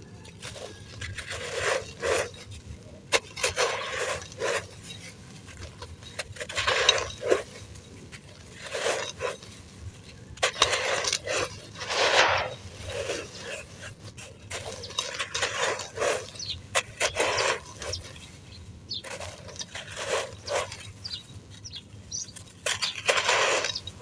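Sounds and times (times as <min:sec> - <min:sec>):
sand crumbling in a clay pot: 0:00.0 - 0:24.0.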